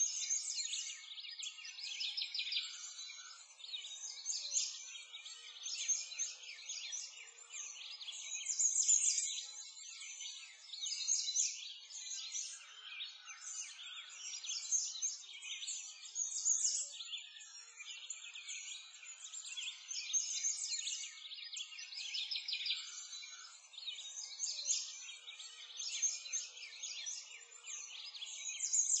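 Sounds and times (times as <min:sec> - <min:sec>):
birds chirping and trilling: 0:00.0 - 0:29.0.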